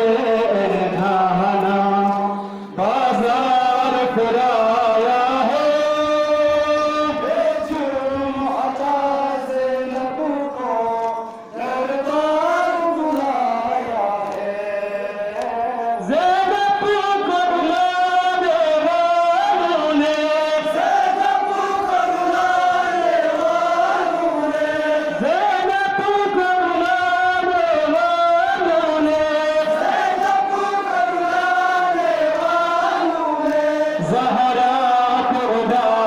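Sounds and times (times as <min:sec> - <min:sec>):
voices chanting a lament: 0:00.0 - 0:36.0.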